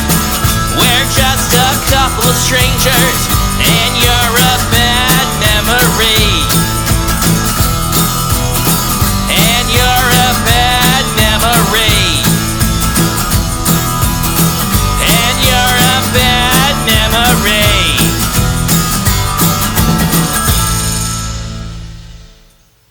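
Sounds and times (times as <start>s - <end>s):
bending lead guitar melody: 0.0s - 22.1s
rock guitars: 0.0s - 22.5s
drums: 0.0s - 22.9s.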